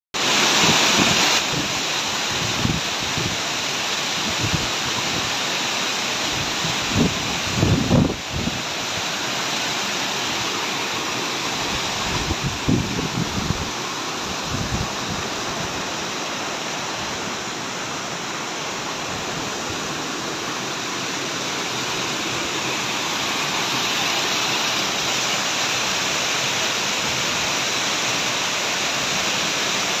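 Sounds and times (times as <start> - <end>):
water rushing over rocks: 0.2 - 30.0.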